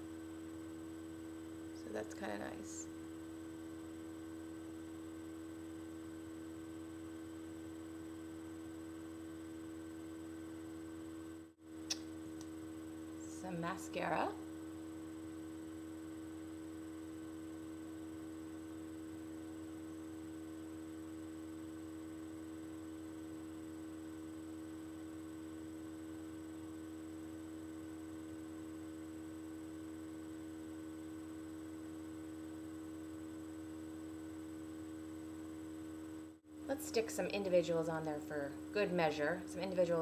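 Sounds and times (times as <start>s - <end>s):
electronic hum: 0.0s - 40.0s.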